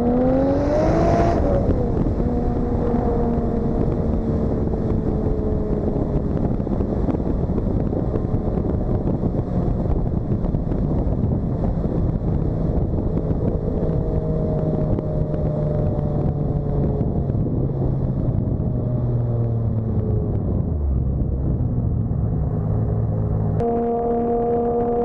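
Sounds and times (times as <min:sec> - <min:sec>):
car engine cruising: 0:00.0 - 0:25.0
road and wind noise: 0:00.0 - 0:25.0.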